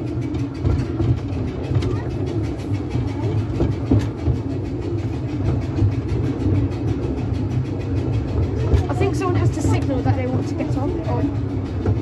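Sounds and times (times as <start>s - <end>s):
small steam train rumbling: 0.0s - 12.0s.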